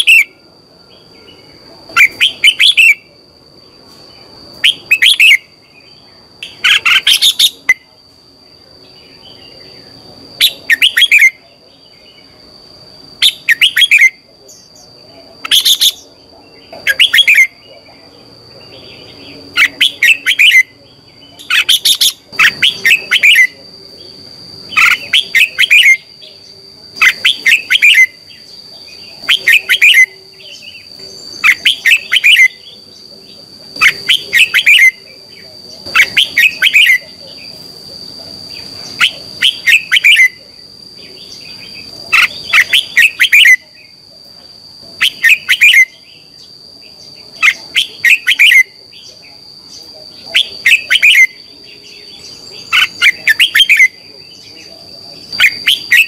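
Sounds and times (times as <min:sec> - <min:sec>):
thin steady high tone: 0:00.0 - 0:56.0.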